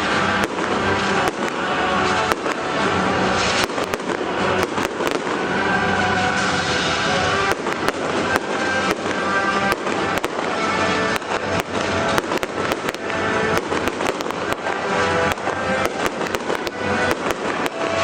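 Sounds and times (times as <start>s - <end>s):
fireworks bangs and crackling: 0.0s - 18.0s
music playing: 0.0s - 18.0s.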